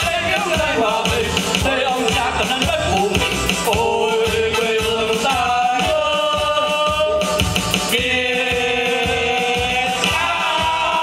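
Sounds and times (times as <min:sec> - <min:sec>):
backing track with drum beat: 0:00.0 - 0:11.0
men singing together: 0:00.0 - 0:11.0.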